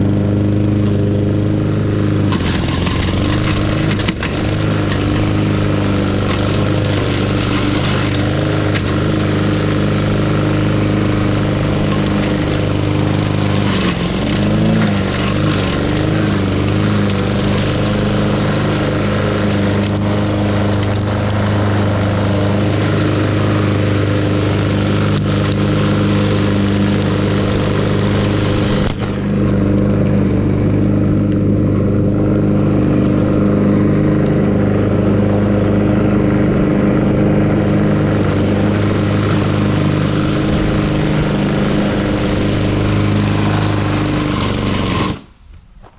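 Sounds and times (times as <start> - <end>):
engine running steadily: 0.0 - 45.9.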